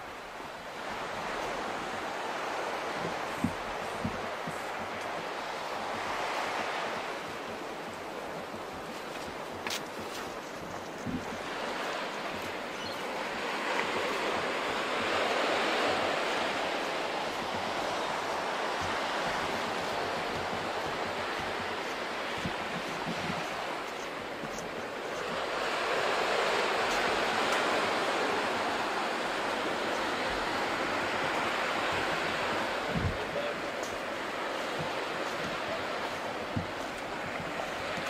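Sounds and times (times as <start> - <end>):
sea waves breaking on beach: 0.0 - 38.0.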